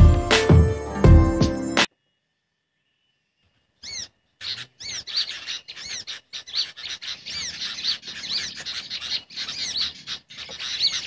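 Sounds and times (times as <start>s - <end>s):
high bird chirps: 2.0s - 11.0s.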